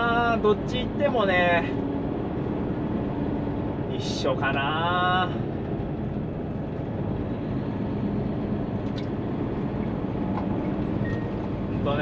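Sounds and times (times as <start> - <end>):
diesel engine hum: 0.0 - 12.0
road noise: 0.0 - 12.0.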